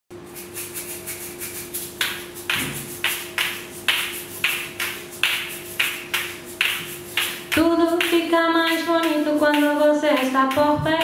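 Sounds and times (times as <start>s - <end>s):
shaker rattling in rhythm: 0.2s - 11.0s.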